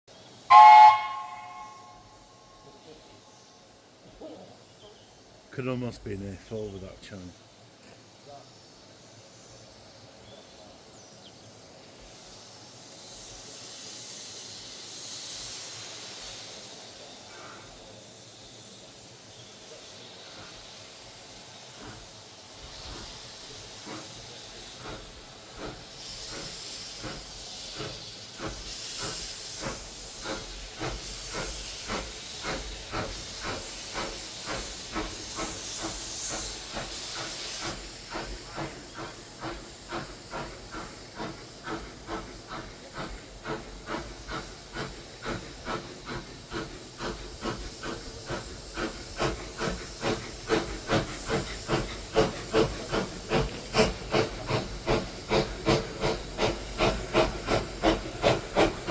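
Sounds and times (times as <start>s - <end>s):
hiss of escaping steam: 0.1s - 58.9s
steam locomotive chuffing: 0.1s - 58.9s.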